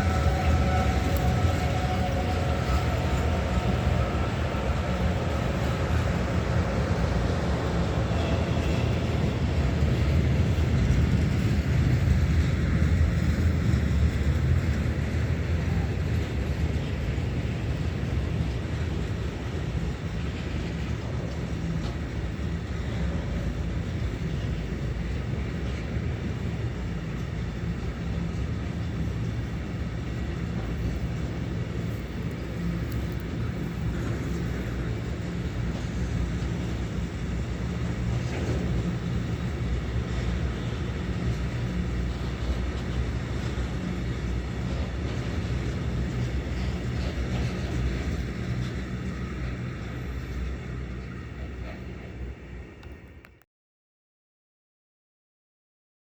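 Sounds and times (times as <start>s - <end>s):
train rumbling past: 0.0s - 53.4s.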